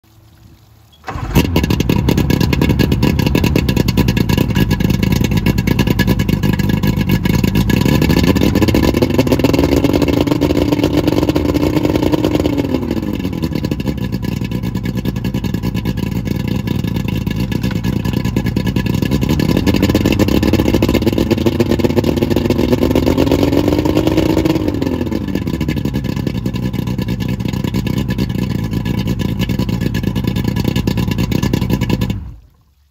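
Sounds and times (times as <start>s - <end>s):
outboard motor idling and revving: 1.0s - 32.4s.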